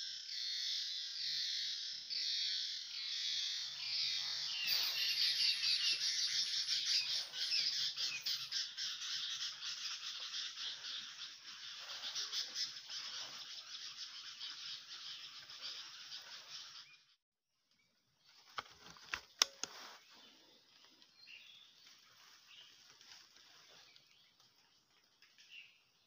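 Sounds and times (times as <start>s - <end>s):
birds chirping chorus: 0.0s - 26.0s.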